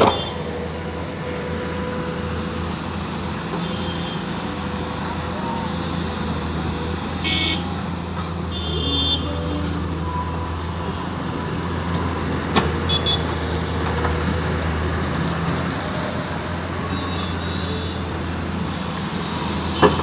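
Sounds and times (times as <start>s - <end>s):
heavy engine droning: 0.0s - 20.0s.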